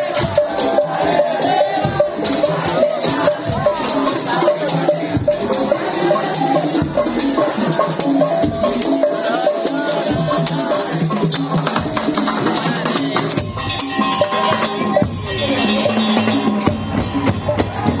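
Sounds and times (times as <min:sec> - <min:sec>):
drums: 0:00.0 - 0:18.0
rattling percussion: 0:00.0 - 0:18.0
street band melody: 0:00.0 - 0:18.0.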